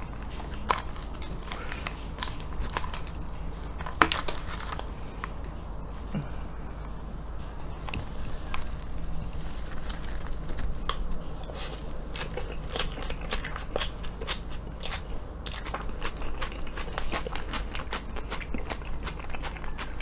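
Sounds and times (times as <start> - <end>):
crunchy chewing of salad: 0.0 - 20.0.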